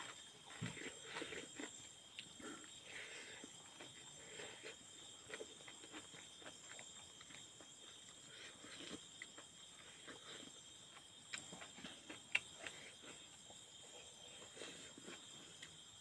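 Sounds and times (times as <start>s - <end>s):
man chewing and smacking lips: 0.0s - 16.0s.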